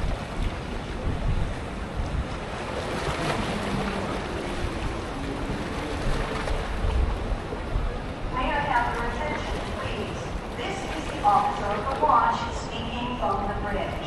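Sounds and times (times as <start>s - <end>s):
sea water rushing: 0.0s - 14.0s
wind buffeting microphone: 0.0s - 14.0s.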